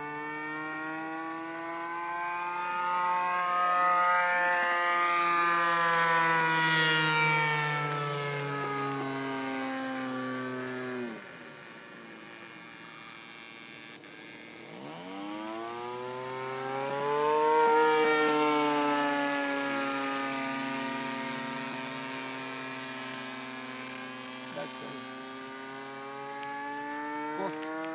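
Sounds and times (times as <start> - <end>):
model aeroplane engine in flight: 0.0 - 27.9.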